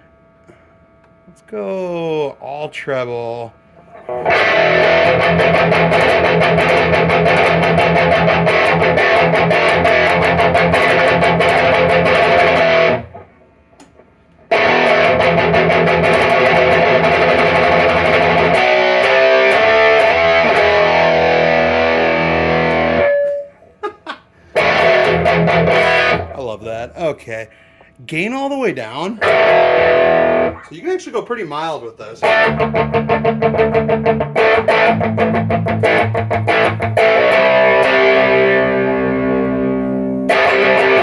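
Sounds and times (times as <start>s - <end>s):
distorted electric guitar: 3.8s - 23.9s, 24.5s - 27.0s, 29.0s - 30.8s, 32.2s - 41.0s.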